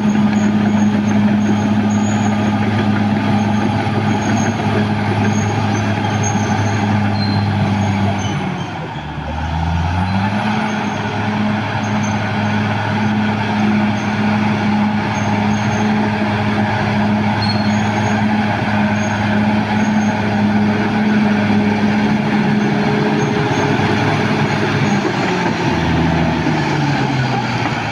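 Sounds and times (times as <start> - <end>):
bulldozer diesel engine running: 0.0 - 27.9.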